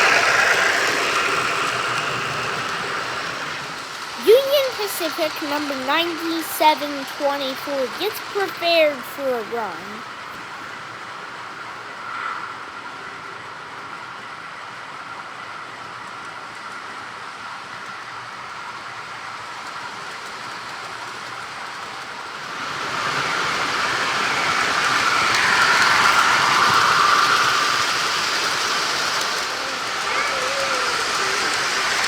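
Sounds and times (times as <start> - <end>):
model train rolling on rails: 0.0 - 32.0.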